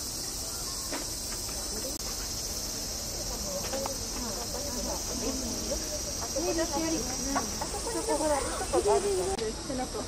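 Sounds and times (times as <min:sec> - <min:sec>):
cicadas droning: 0:00.0 - 0:10.0
faint voices murmuring: 0:00.0 - 0:10.0.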